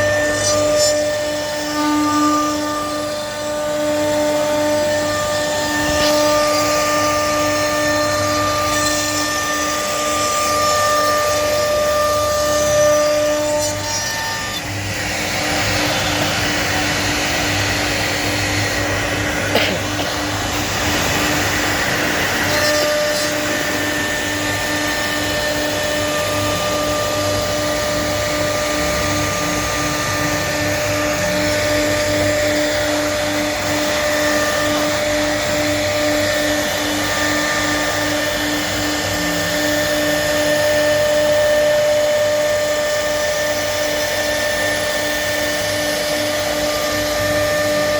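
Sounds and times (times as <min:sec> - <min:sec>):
cnc machine milling: 0:00.0 - 0:47.9
steady whining tones: 0:00.0 - 0:47.9.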